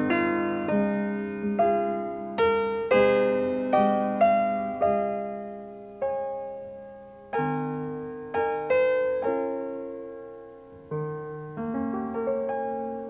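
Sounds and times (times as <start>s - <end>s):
slow solo piano: 0.0s - 13.0s.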